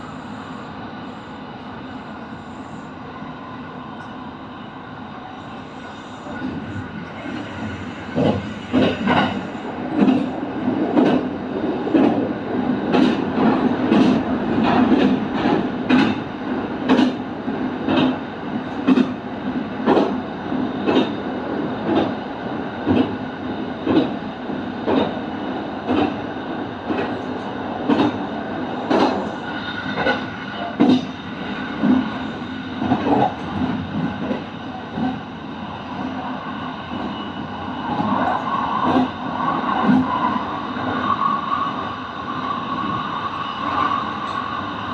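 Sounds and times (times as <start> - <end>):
train rumble and hum: 0.0 - 44.9.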